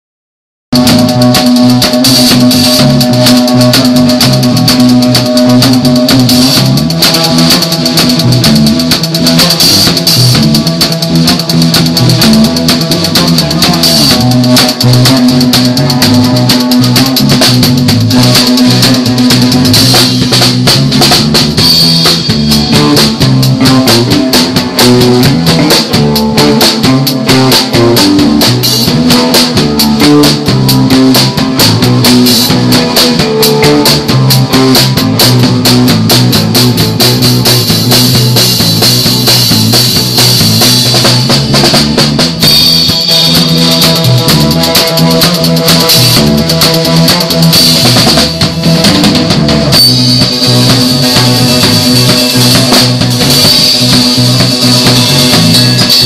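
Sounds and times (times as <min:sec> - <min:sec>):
rock band playing live: 0:00.7 - 0:56.0
kick drum and cymbals: 0:00.8 - 0:56.0.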